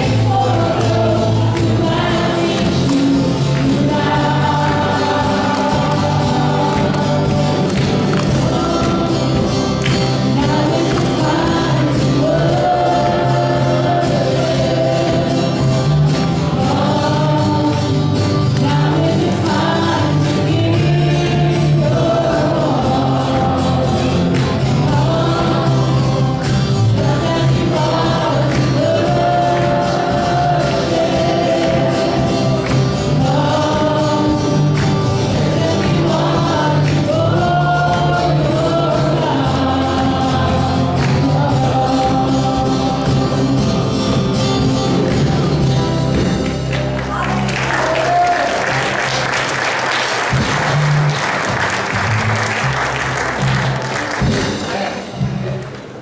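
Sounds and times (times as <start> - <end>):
group singing gospel song: 0.0 - 55.0
full band playing: 0.0 - 56.0.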